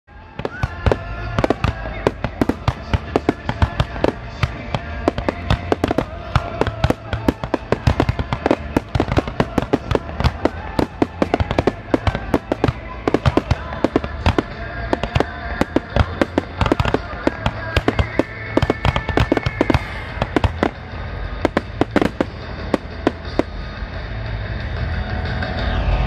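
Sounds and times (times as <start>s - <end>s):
fireworks bangs and crackles: 0.1s - 25.6s
music playing: 0.1s - 26.0s.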